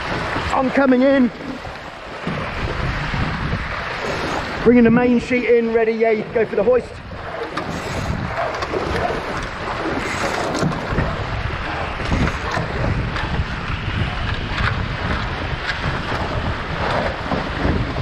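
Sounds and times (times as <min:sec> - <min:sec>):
water rushing along hulls: 0:00.0 - 0:18.0
wind noise on microphone: 0:00.0 - 0:18.0.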